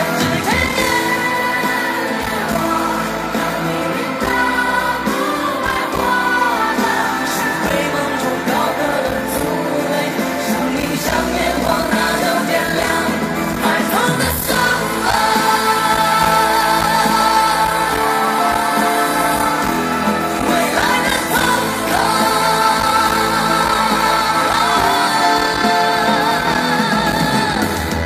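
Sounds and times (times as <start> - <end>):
band playing: 0.0 - 28.0
man singing: 0.0 - 28.0.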